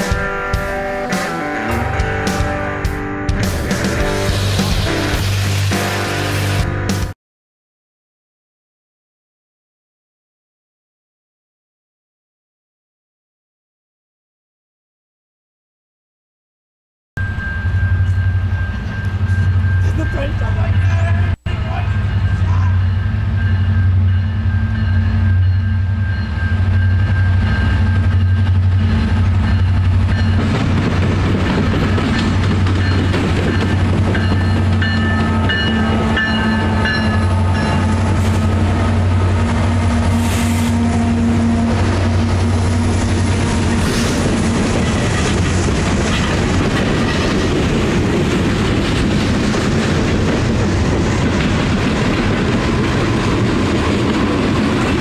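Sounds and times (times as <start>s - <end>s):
diesel locomotive engine drone: 0.0s - 7.0s, 17.2s - 55.0s.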